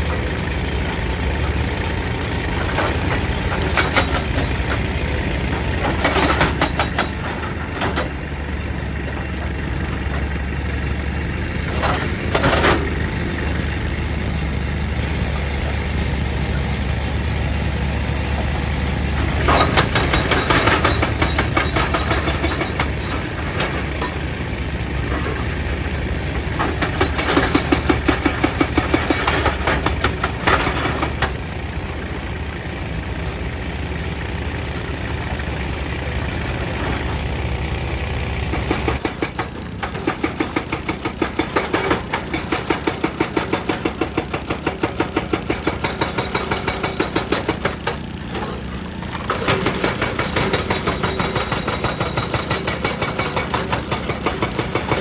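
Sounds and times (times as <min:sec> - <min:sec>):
diesel engine running: 0:00.0 - 0:55.0
hydraulic breaker hammering rock: 0:00.0 - 0:55.0.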